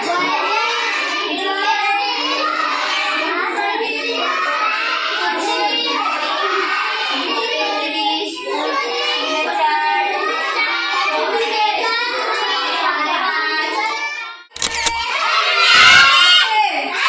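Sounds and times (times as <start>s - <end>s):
children chanting together: 0.0s - 14.5s, 15.1s - 17.0s.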